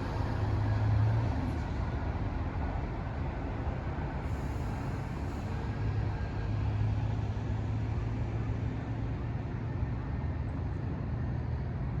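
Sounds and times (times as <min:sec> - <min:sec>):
bus engine hum: 0:00.0 - 0:12.0
road and cabin noise: 0:00.0 - 0:12.0.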